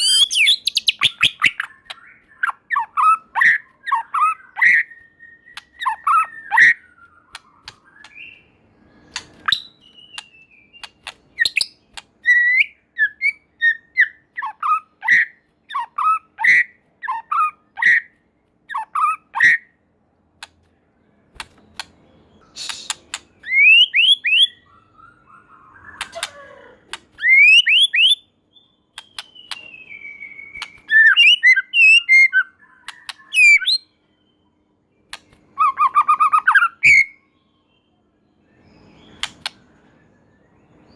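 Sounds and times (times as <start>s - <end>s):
songbird whistling and clicking: 0.0s - 19.6s, 21.3s - 28.2s, 28.9s - 33.9s, 35.0s - 37.1s, 38.8s - 39.7s.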